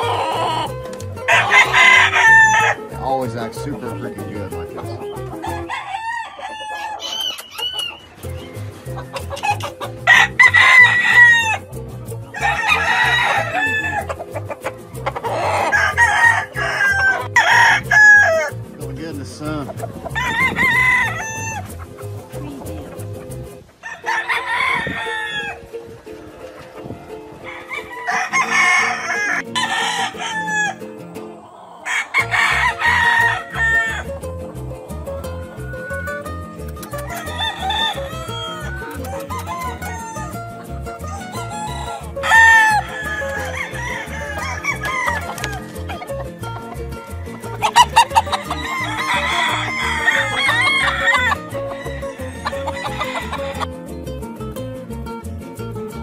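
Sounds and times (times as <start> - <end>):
background music: 0.0 - 6.2, 7.6 - 56.0
roosters crowing: 0.0 - 18.8, 19.7 - 53.8.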